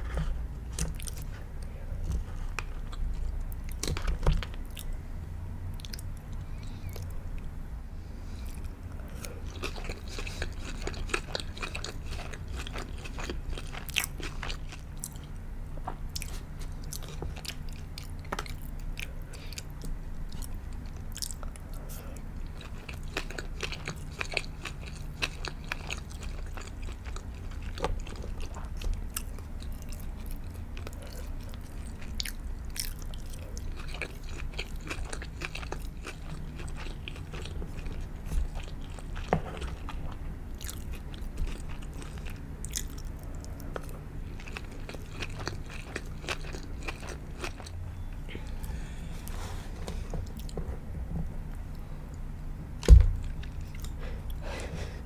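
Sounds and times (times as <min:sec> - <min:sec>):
chewing with crunches: 0:00.0 - 0:05.1, 0:05.7 - 0:07.6, 0:08.2 - 0:54.9.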